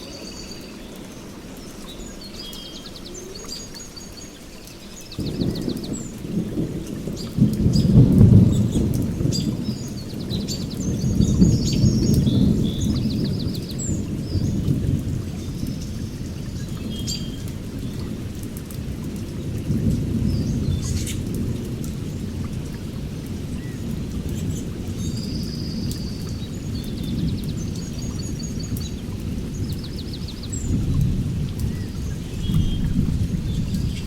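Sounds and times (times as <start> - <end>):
rain rumble: 0.0 - 34.0
songbirds chirping and trilling: 0.0 - 34.0
distant thunder: 5.0 - 34.0.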